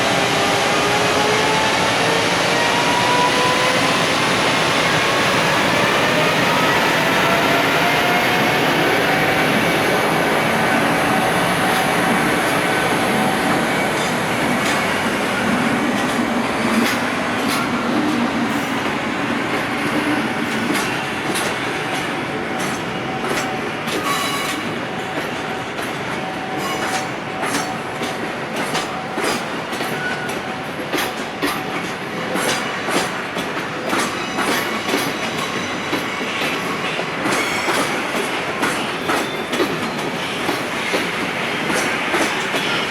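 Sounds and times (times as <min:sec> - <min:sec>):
train wheels clacking: 0:00.1 - 0:42.9.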